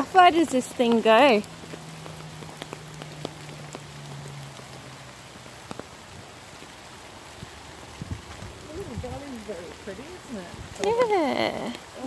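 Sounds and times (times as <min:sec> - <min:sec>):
steady rain on forest: 0:00.0 - 0:12.0.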